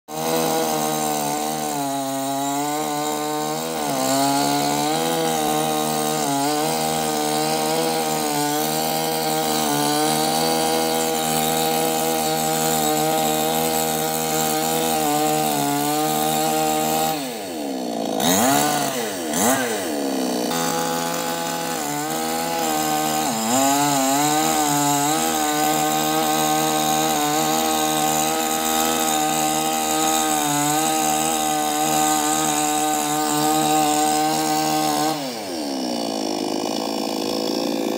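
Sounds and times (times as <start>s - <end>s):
chainsaw cutting limbs: 0.1s - 37.9s.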